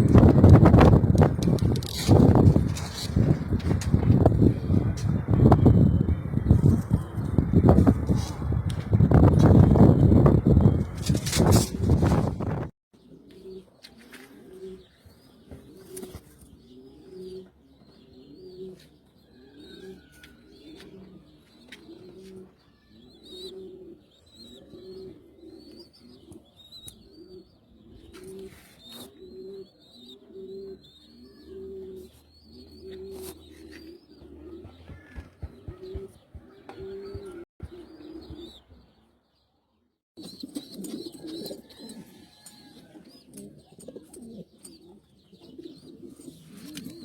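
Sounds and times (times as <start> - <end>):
pigeons cooing: 0.0 - 39.0, 40.2 - 47.0.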